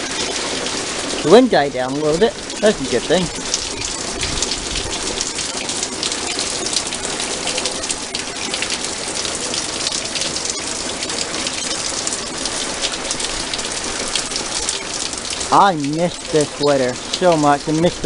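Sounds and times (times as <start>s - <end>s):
heavy rain pattering: 0.0s - 18.0s.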